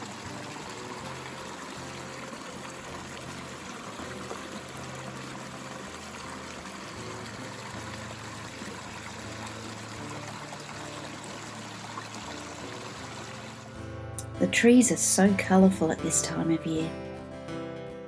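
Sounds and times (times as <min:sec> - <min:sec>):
stream water running: 0:00.0 - 0:16.7.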